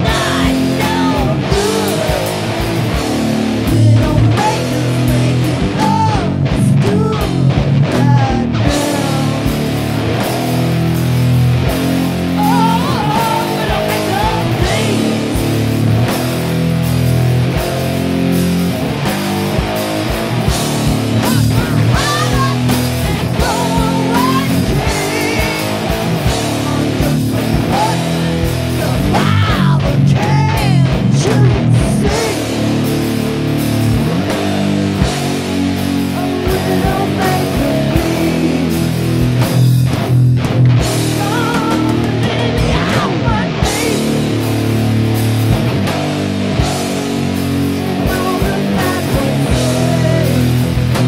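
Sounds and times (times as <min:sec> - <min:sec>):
bass guitar riffs: 0:00.0 - 0:51.0
electric guitar riffs: 0:00.0 - 0:51.0
steady drum beat: 0:00.0 - 0:51.0.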